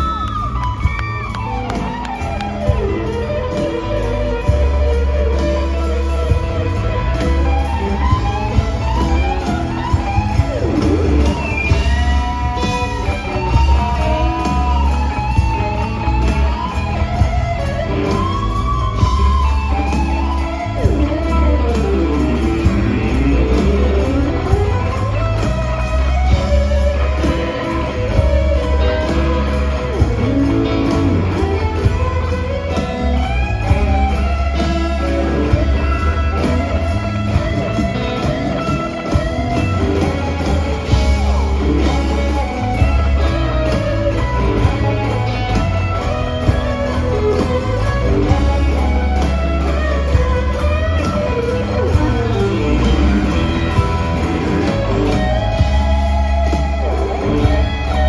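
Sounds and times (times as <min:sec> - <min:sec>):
band playing with bass guitar: 0:00.0 - 0:58.0
electric guitar solo: 0:00.0 - 0:58.0.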